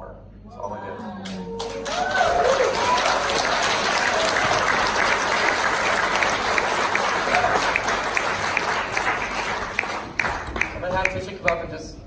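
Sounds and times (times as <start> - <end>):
audience applauding: 1.2 - 11.6.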